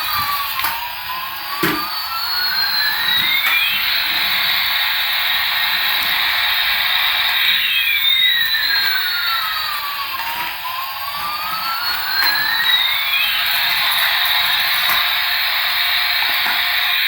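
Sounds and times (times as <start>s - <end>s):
electronic toy hiss with sliding tones: 0.0s - 17.0s.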